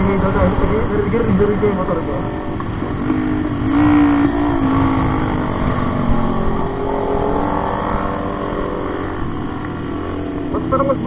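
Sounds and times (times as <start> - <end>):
low rumble: 0.0 - 11.0
motorcycle engine accelerating: 0.0 - 11.0.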